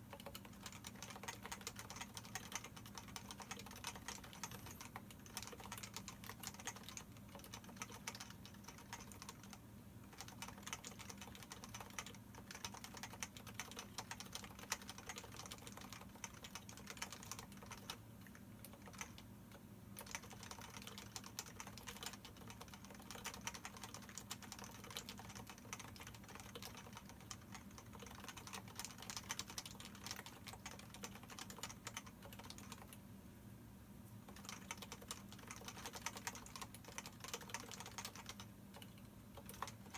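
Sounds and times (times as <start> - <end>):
fast typing on keyboard: 0.0 - 19.3, 20.0 - 33.0, 34.2 - 39.9.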